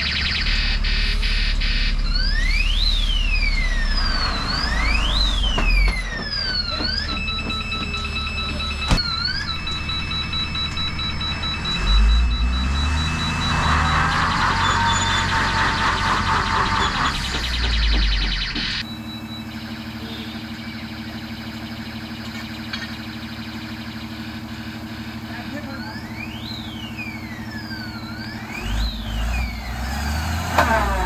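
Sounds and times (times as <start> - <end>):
diesel engine idling: 0.0 - 31.0
truck reverse alarm: 0.0 - 31.0.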